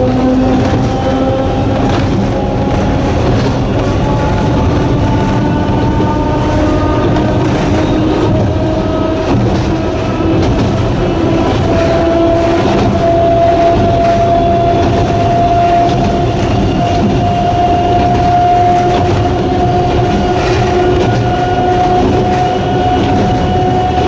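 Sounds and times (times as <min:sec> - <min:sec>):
electric train motors whining: 0:00.0 - 0:24.0
train rumble: 0:00.0 - 0:24.0.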